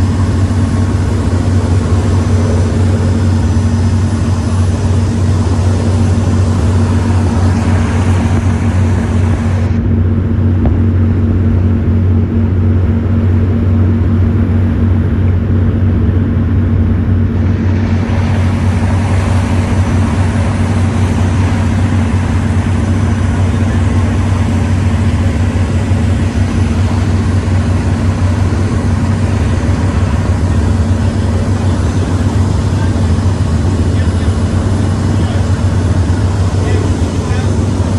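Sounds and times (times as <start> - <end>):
rushing noise: 0.0 - 37.9
vehicle engine drone: 0.0 - 37.9.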